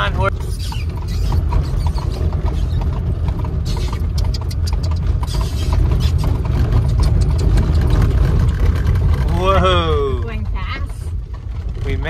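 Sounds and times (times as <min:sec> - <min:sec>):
buggy rattling: 0:00.0 - 0:12.0
buggy wheels rumbling: 0:00.0 - 0:12.0
horse hooves trotting: 0:00.3 - 0:12.0.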